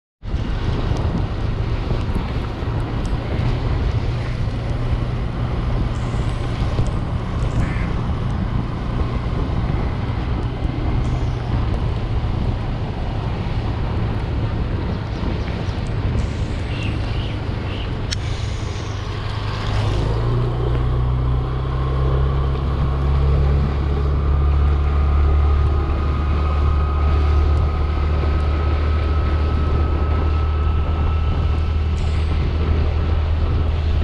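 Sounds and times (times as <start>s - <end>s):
motorbike engine drone: 0.2s - 34.0s
wind rushing over microphone: 0.2s - 34.0s.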